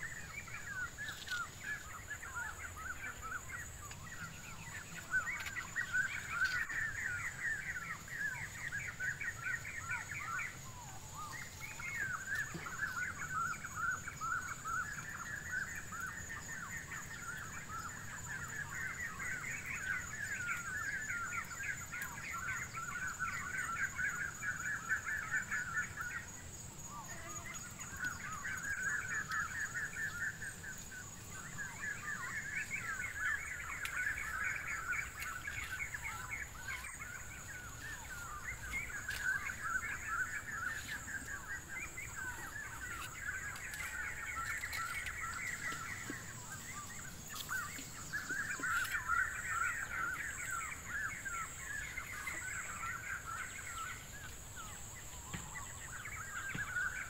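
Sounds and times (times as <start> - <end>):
birds chirping: 0.0 - 57.0
steady high-pitched whine: 0.0 - 57.0.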